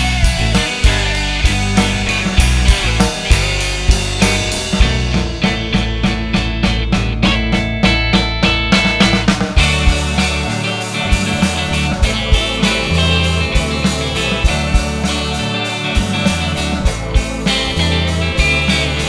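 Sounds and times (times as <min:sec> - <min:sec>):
instrumental rock music: 0:00.0 - 0:19.0.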